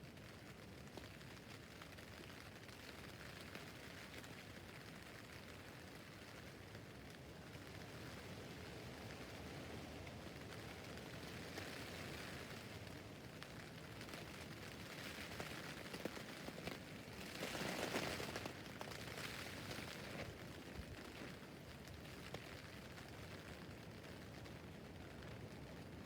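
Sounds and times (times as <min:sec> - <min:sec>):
rain on a tent roof: 0:00.0 - 0:26.0.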